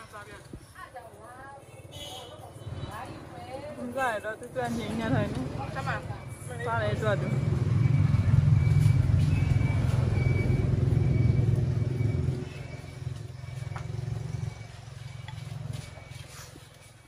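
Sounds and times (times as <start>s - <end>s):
vehicle engine rumble: 2.7s - 17.0s.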